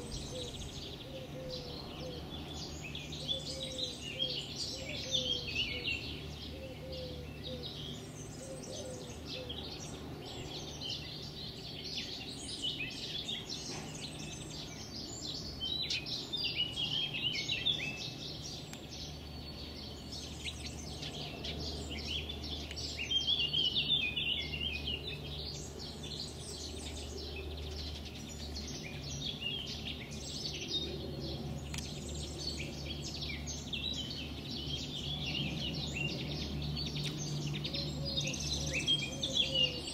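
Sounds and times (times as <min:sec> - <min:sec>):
songbirds chirping and trilling: 0:00.0 - 0:39.9
steady low hum: 0:00.0 - 0:39.9.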